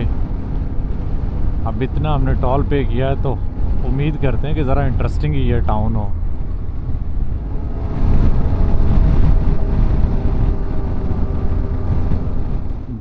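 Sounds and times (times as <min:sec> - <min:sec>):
motorcycle running: 0:00.0 - 0:13.0
steady hum: 0:00.0 - 0:13.0
wind buffeting microphone: 0:00.0 - 0:13.0.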